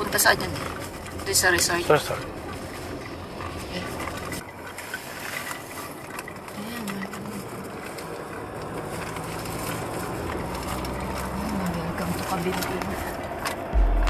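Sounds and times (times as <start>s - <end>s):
road and tyre noise in car: 0.0s - 14.0s.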